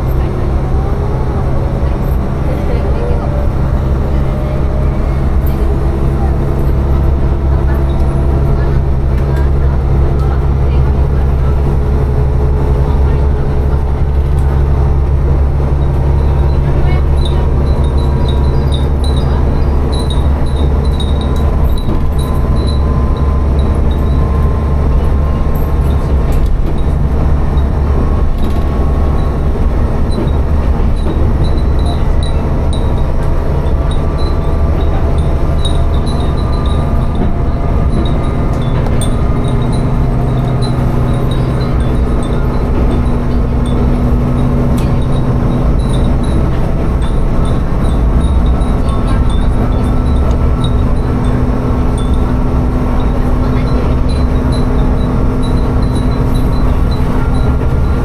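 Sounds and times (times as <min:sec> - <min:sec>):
railcar engine drone: 0:00.0 - 0:58.0
wheels running on rails: 0:00.0 - 0:58.0.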